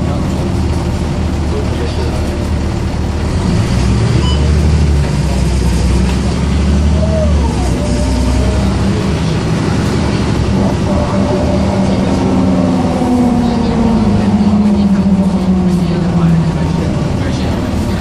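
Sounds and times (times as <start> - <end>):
bus diesel engine drone: 0.0 - 18.0.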